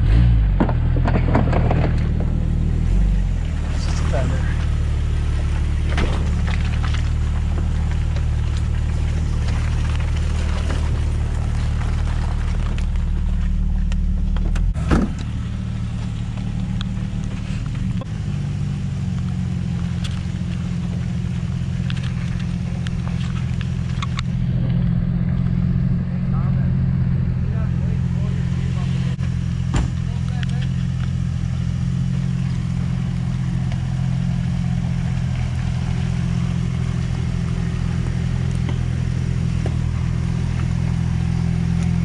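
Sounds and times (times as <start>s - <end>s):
engine running at low revs: 0.0s - 42.0s.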